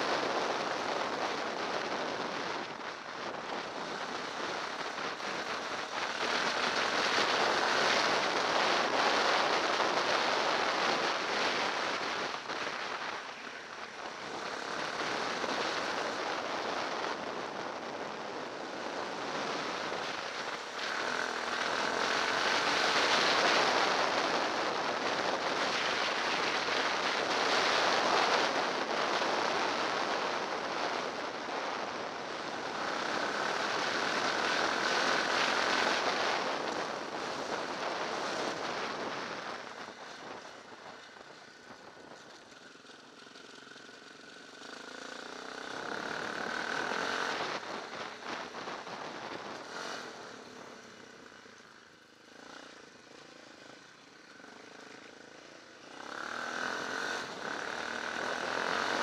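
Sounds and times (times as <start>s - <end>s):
wind rushing on camera: 0.0s - 59.0s.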